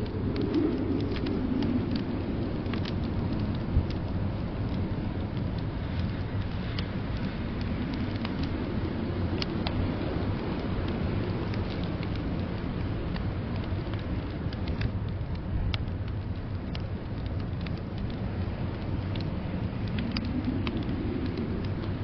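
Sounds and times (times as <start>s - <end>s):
storm wind rushing: 0.0s - 22.0s
wood fire crackling: 0.0s - 22.0s.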